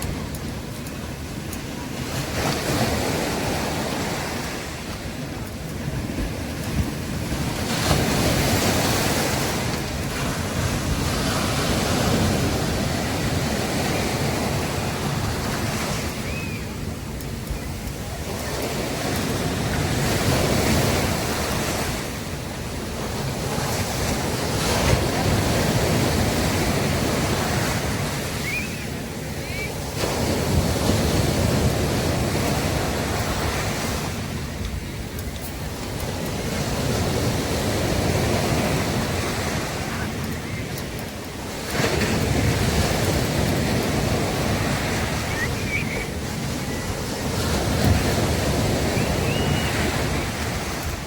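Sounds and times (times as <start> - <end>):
sea waves breaking on beach: 0.0 - 51.0.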